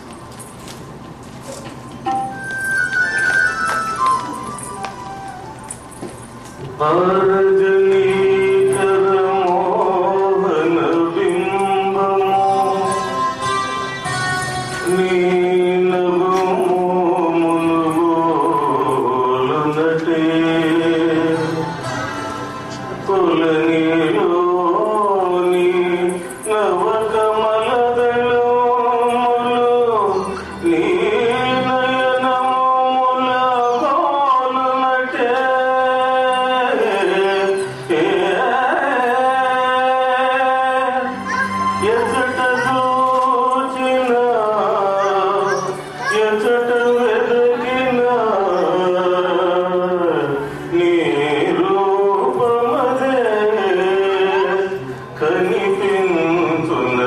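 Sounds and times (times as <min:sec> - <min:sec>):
man singing into a microphone: 0:06.6 - 0:57.0.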